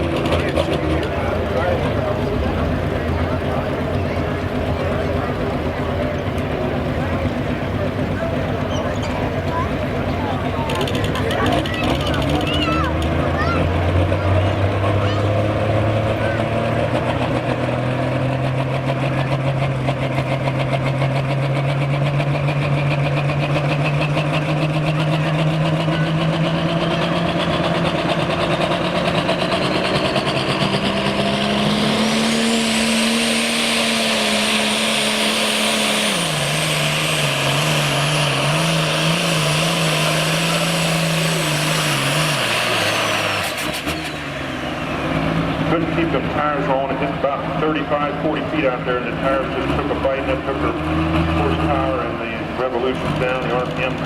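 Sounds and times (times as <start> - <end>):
diesel tractor engine at full throttle: 0.0 - 54.0.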